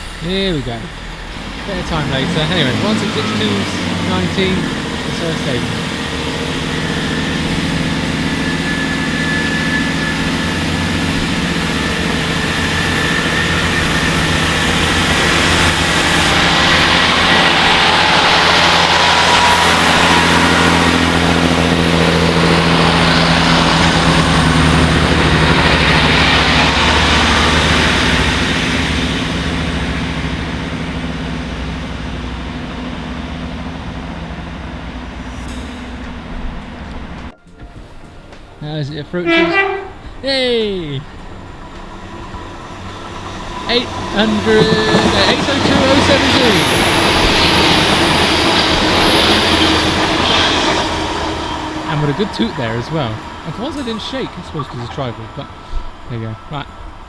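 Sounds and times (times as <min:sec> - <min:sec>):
rushing rail noise: 0:00.0 - 0:57.0
train engine drone: 0:00.0 - 0:57.0.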